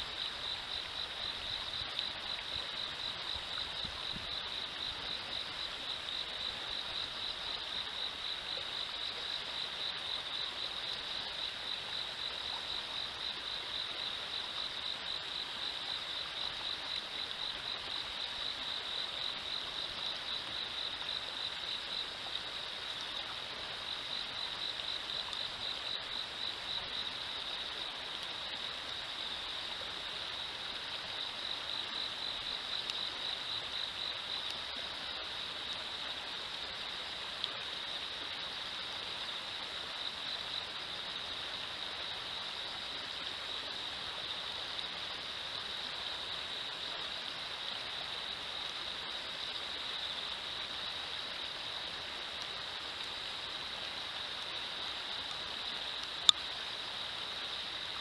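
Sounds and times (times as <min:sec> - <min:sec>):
river water running over rocks: 0:00.0 - 0:58.0.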